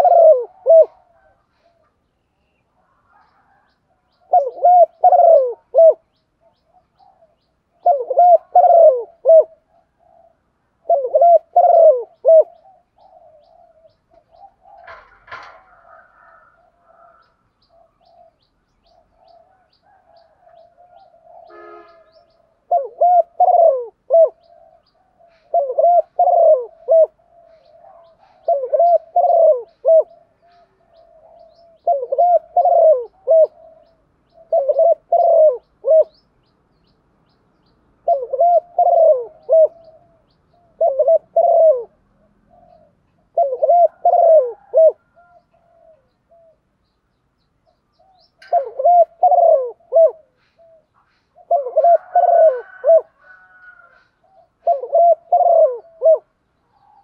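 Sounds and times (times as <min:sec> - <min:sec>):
dove cooing: 0:00.0 - 0:36.2, 0:38.0 - 0:46.7, 0:47.6 - 0:57.0.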